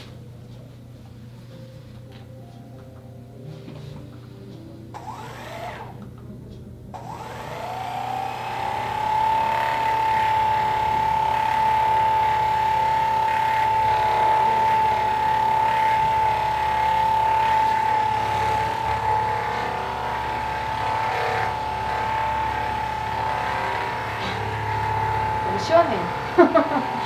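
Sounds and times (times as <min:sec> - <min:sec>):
massage gun motor whine: 0:04.9 - 0:27.0.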